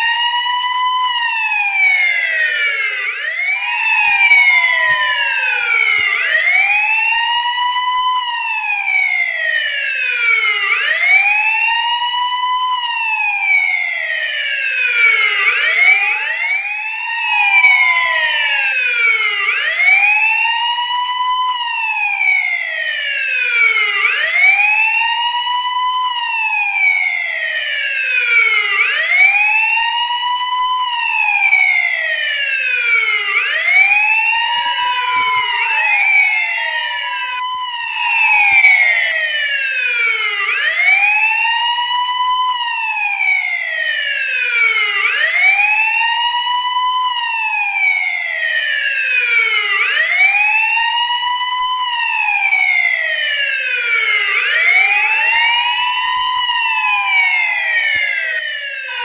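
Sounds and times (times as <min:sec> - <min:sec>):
police siren wailing: 0:00.0 - 0:59.0.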